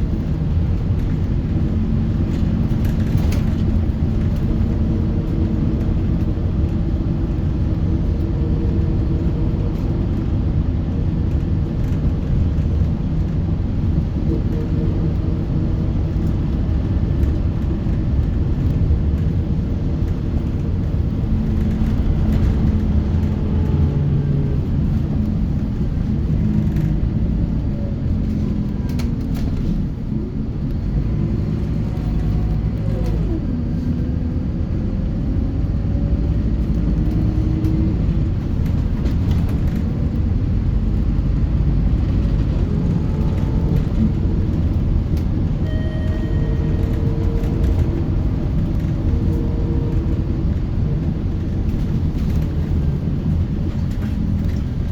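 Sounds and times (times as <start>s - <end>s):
bus diesel engine: 0.0s - 54.9s
road rumble: 0.0s - 54.9s.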